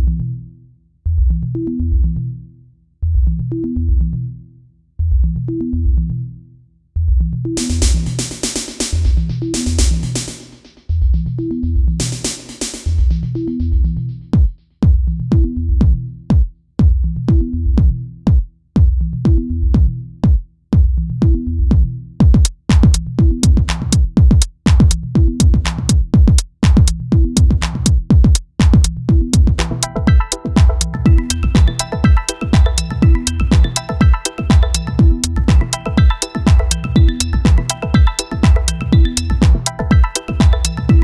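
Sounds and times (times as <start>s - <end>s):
electronic music with drum beat: 7.6s - 41.0s.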